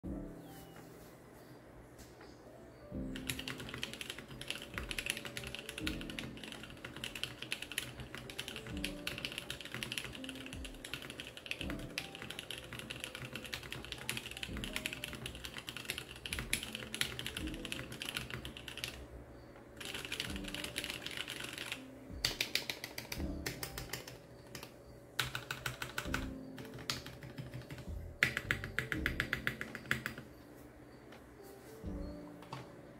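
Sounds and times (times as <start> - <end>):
quiet background music: 0.0 - 32.9
mechanical keyboard typing: 3.1 - 19.0, 19.8 - 30.3.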